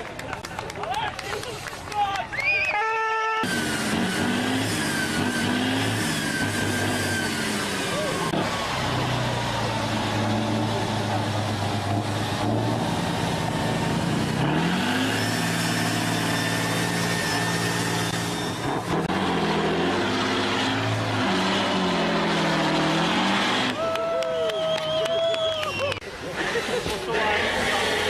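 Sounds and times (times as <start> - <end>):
diesel truck engine revving: 3.4 - 28.0.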